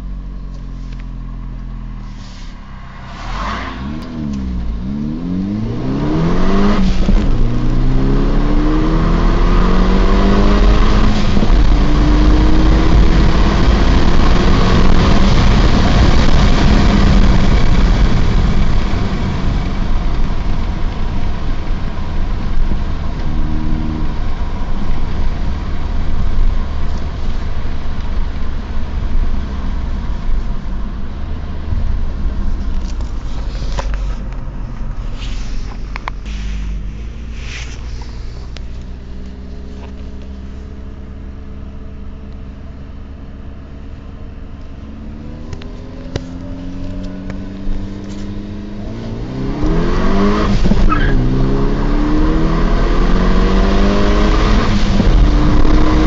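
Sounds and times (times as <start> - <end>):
car engine accelerating hard: 0.0 - 56.0
road and wind noise: 0.0 - 56.0.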